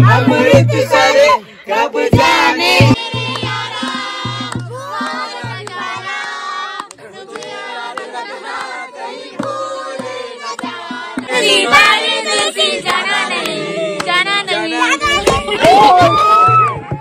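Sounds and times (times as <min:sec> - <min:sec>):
group singing off-key: 0:00.0 - 0:17.0.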